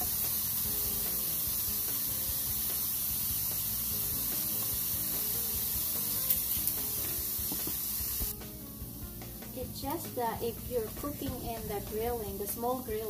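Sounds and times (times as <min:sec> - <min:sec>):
beef sizzling on a grill: 0:00.0 - 0:11.2.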